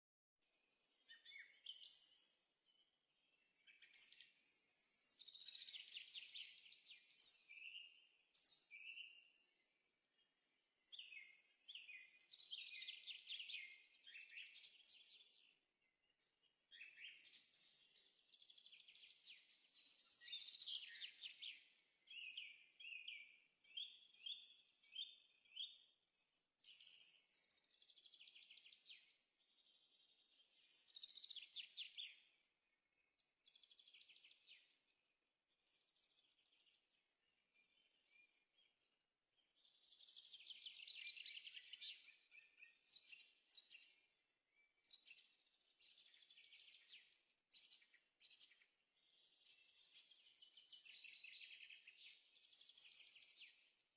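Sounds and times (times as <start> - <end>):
songbird chirping and trilling: 0.4 - 53.9.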